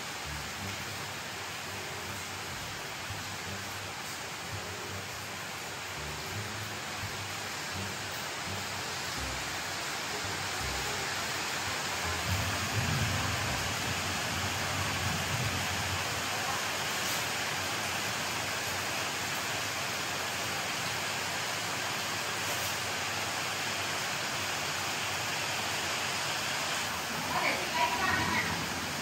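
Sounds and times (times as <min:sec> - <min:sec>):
steady rushing hiss: 0:00.0 - 0:29.0.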